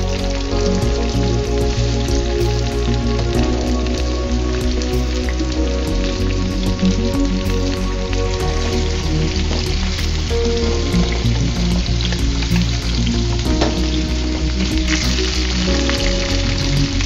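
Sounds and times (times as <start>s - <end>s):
background music with low beat: 0.0s - 17.0s.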